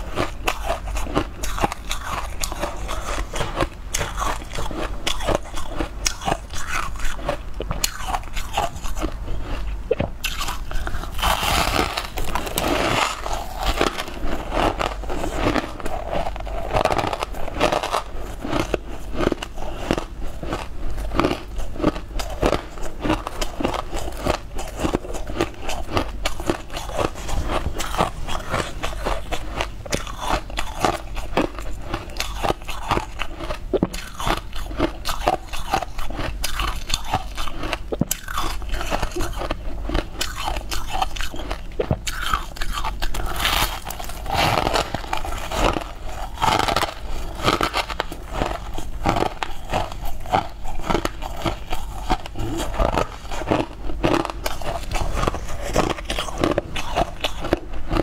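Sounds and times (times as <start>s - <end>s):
crunchy food chewing: 0.0s - 58.0s.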